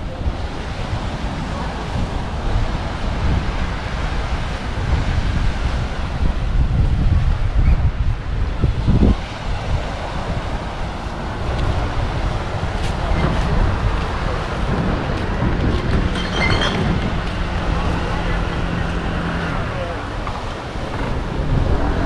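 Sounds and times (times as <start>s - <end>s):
surf hissing: 0.0s - 22.0s
wind buffeting microphone: 0.0s - 22.0s.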